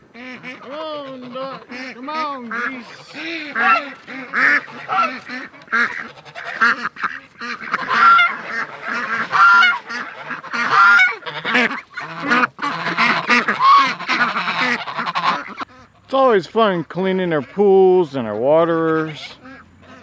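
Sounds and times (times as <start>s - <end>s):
ducks calling: 0.0s - 20.0s
geese honking: 0.0s - 20.0s.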